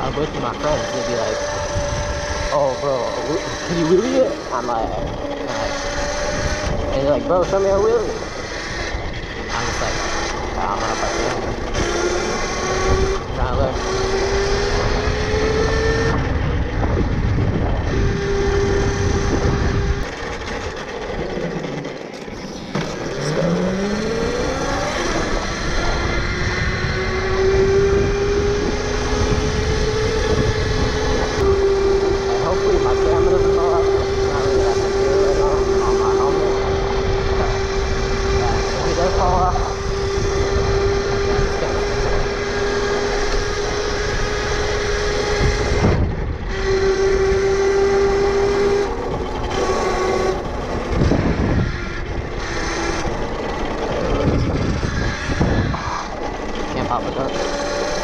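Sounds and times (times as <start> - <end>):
electric motor whining: 0.0 - 58.0
wind rumble on microphone: 0.0 - 58.0.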